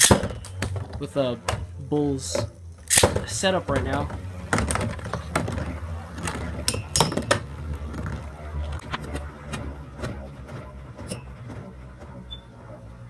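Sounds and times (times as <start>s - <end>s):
spinning tops whirring: 0.0s - 13.0s.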